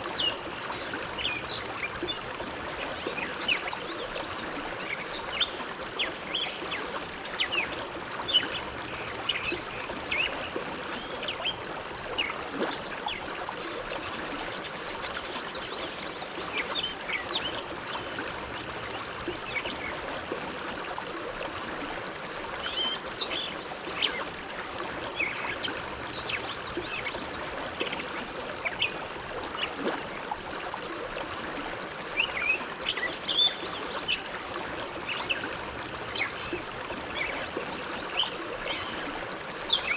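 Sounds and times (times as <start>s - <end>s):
small splashes and gurgles: 0.0s - 39.9s.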